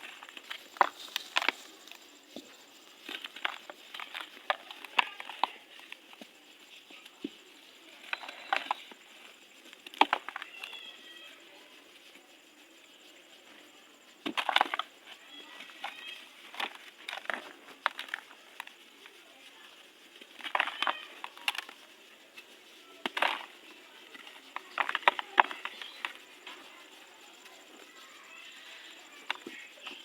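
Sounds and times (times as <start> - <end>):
dry material crunching in a tub: 0.0 - 6.3, 6.9 - 11.4, 14.2 - 30.0.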